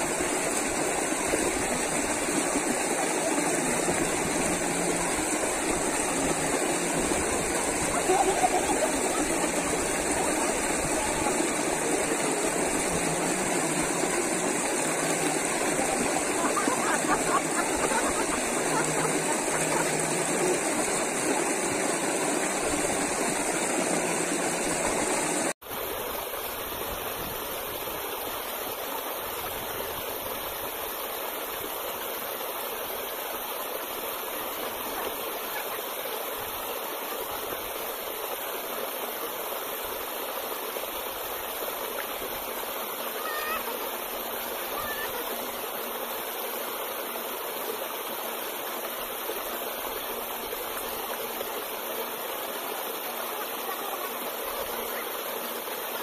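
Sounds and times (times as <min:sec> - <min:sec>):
stream water running over rocks: 0:00.0 - 0:56.0.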